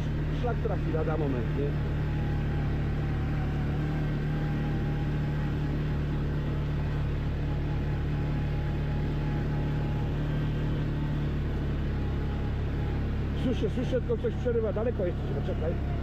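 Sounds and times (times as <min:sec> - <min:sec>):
quad bike engine running: 0:00.0 - 0:16.0.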